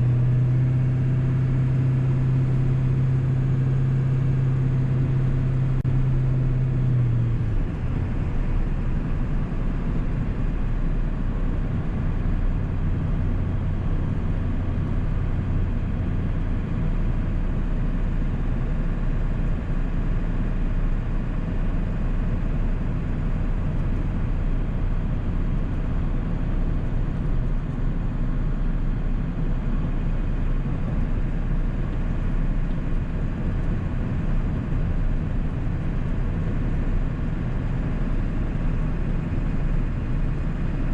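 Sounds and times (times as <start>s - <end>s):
diesel engine rumbling: 0.0s - 40.9s
road noise: 0.0s - 40.9s.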